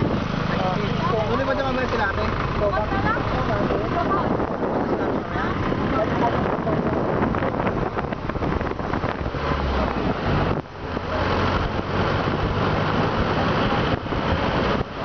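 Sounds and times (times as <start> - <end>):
wind buffeting microphone: 0.0 - 1.8, 2.6 - 15.0
engine and road rumble: 0.0 - 15.0.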